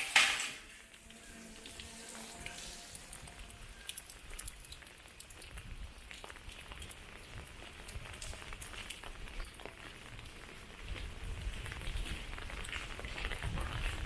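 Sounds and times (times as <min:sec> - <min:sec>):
rain rumble: 0:00.0 - 0:14.0
rain drops ticking: 0:00.6 - 0:14.0.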